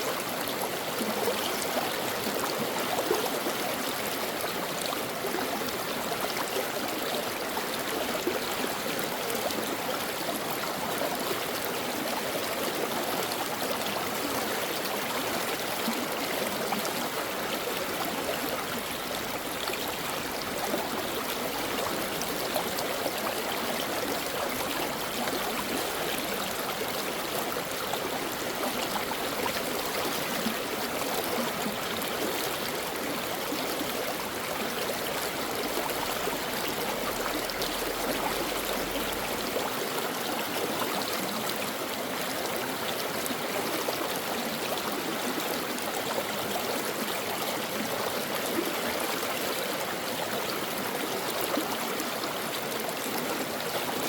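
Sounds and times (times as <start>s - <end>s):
brook water flowing: 0.0s - 54.0s.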